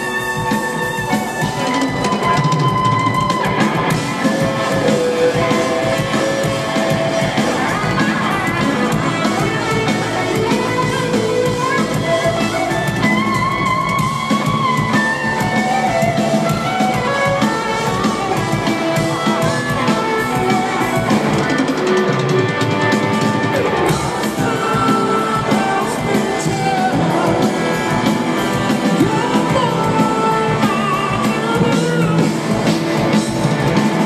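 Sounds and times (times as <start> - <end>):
bass guitar: 0.0 - 34.0
drum kit: 0.0 - 34.0
electric guitar lead lines: 0.0 - 34.0.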